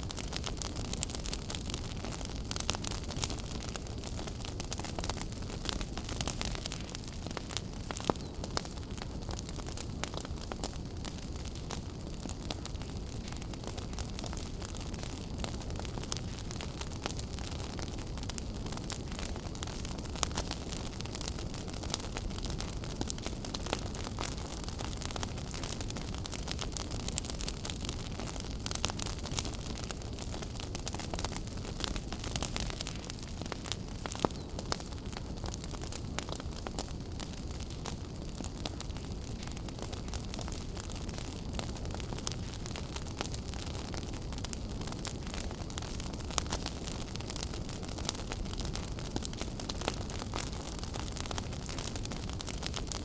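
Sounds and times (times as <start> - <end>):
fire crackling and popping: 0.0 - 53.0
wood fire burning: 0.0 - 53.0.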